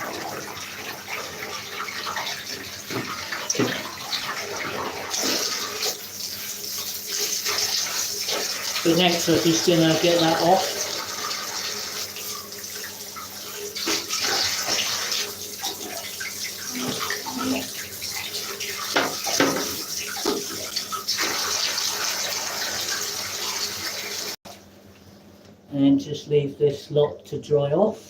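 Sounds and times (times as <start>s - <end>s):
tap water splashing in sink: 0.0s - 24.4s.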